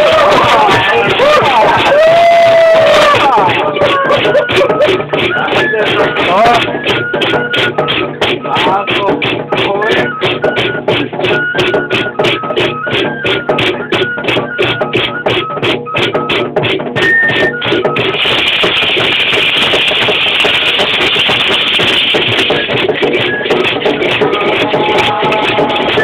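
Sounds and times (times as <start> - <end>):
high flute melody: 0.0 - 26.0
steady drum beat: 0.0 - 26.0.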